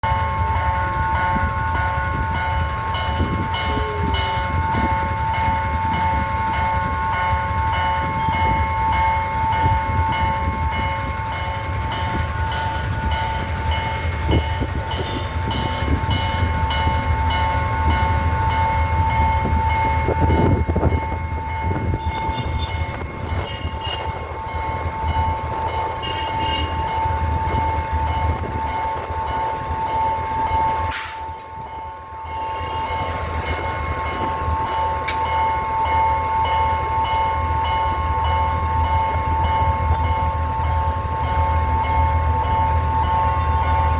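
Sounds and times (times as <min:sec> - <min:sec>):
high ringing warning tone: 0:00.0 - 0:43.9
train rumbling past: 0:00.0 - 0:43.9.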